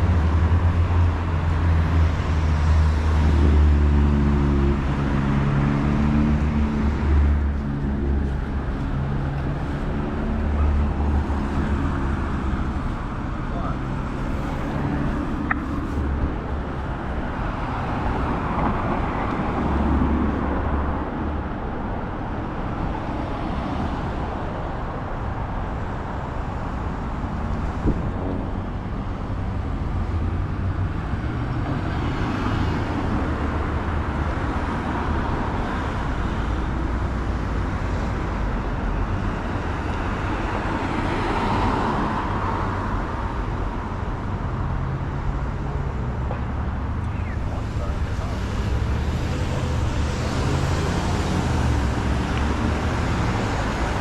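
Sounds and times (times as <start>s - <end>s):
city traffic rumble: 0.0s - 54.0s
vehicles passing: 0.0s - 54.0s.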